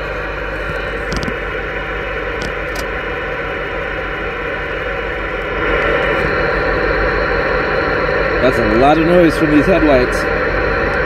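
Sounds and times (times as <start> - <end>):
radio static hiss: 0.0 - 11.0
truck engine idling: 0.0 - 11.0.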